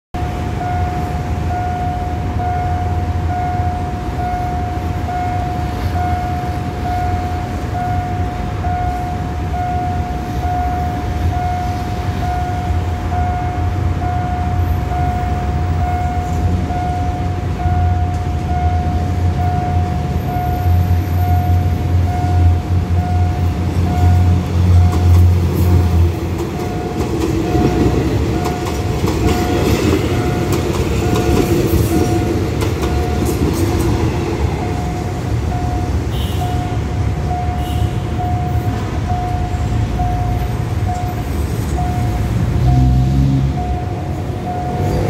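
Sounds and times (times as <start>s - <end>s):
diesel train rumble: 0.2s - 45.0s
level crossing warning tone: 0.2s - 45.0s.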